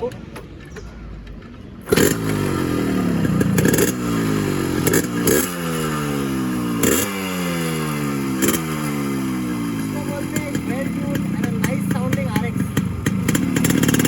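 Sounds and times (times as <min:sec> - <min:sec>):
motorcycle engine revving: 0:01.8 - 0:14.0.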